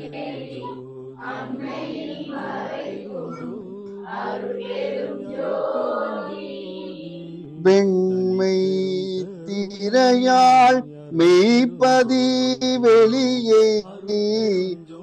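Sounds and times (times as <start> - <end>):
voices chanting in unison: 0.0 - 14.8.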